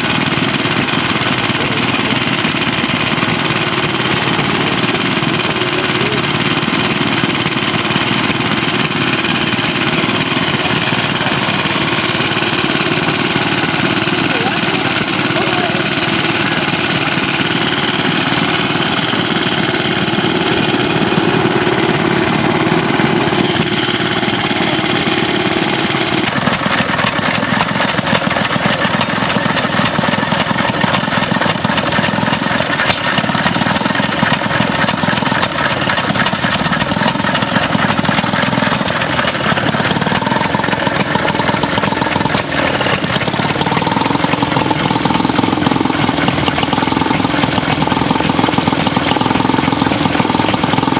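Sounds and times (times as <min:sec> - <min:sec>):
small stationary engines running: 0:00.0 - 0:50.9.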